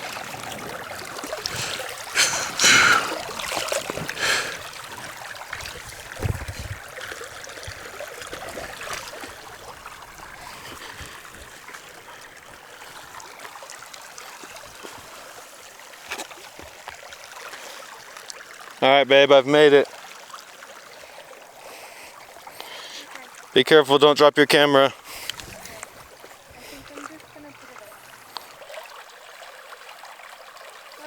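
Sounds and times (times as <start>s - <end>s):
stream water trickling: 0.0s - 31.0s.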